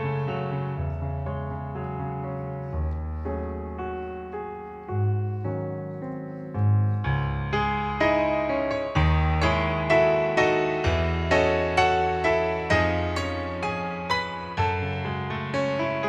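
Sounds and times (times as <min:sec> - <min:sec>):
slow piano playing: 0:00.0 - 0:16.0.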